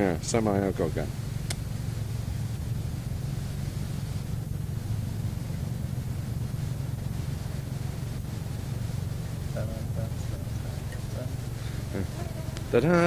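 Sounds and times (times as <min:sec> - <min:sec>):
low hum: 0:00.0 - 0:13.0
tape hiss: 0:00.0 - 0:13.0.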